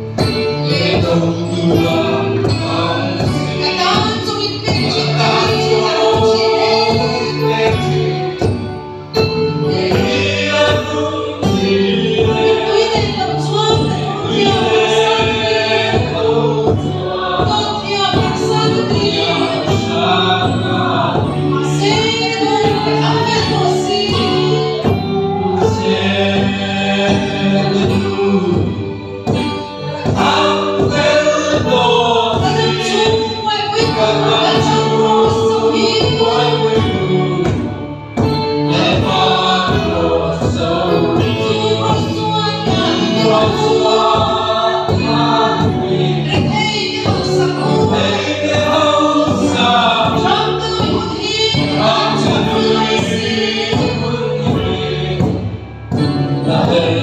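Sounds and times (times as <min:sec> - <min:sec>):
congregation singing worship song: 0:00.0 - 0:57.0
large drum beating: 0:00.1 - 0:57.0.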